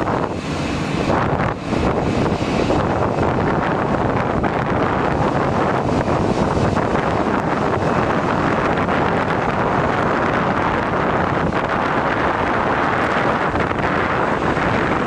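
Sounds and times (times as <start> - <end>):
jet engines on approach: 0.0 - 15.0
wind buffeting microphone: 0.0 - 15.0.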